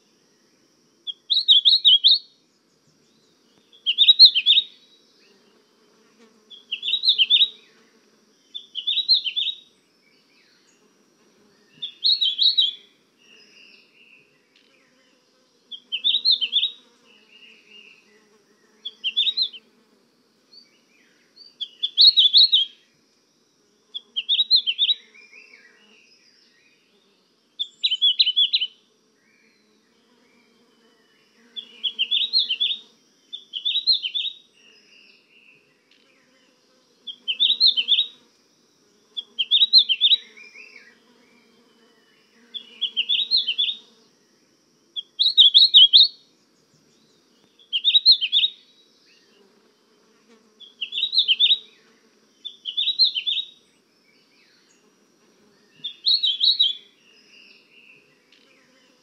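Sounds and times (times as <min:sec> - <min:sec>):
songbird chirping: 0:00.0 - 0:19.9, 0:20.5 - 0:23.0, 0:23.7 - 0:59.0.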